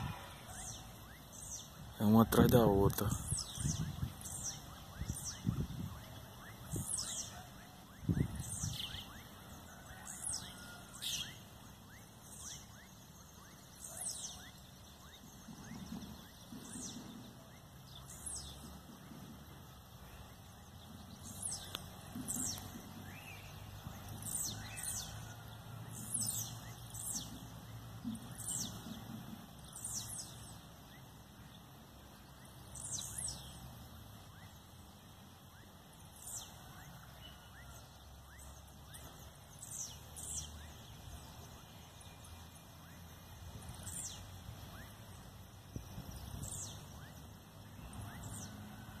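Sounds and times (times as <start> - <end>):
bird song with downward calls: 0.0 - 49.0.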